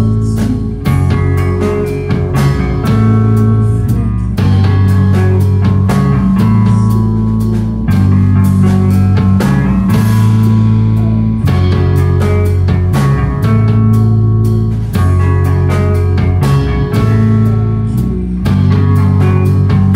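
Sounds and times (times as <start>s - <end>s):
drum kit hits: 0.0s - 19.9s
guitar and bass low notes: 0.0s - 19.9s.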